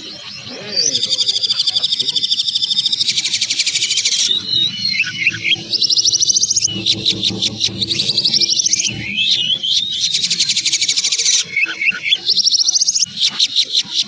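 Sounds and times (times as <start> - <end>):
songbird rattling trills: 0.0 - 14.0
short whistled bird notes: 0.6 - 12.8.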